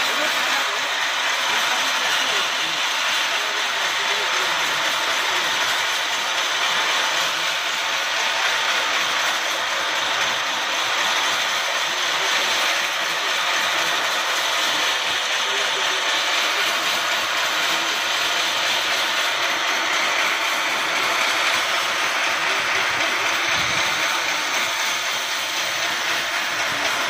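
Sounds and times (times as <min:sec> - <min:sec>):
electric motor running: 0:00.0 - 0:27.0.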